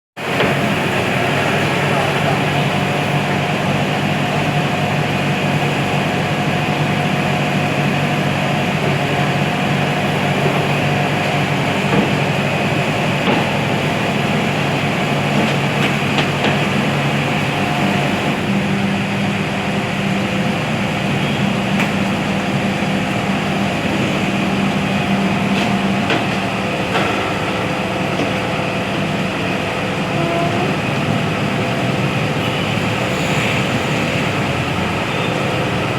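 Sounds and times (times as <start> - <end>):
diesel engine running: 0.2 - 35.9.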